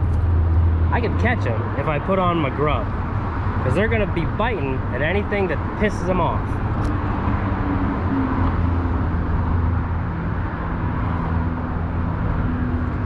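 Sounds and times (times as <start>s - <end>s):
road traffic drone: 0.0s - 13.0s.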